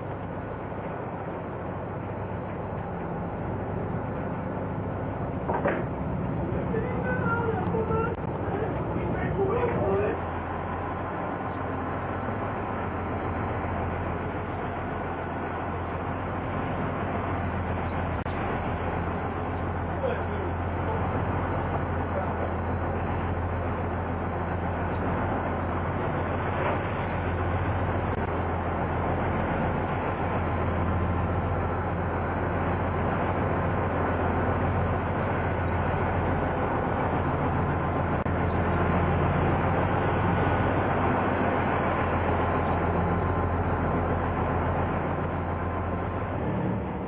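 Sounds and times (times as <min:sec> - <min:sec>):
steady engine drone: 0:00.0 - 0:47.0.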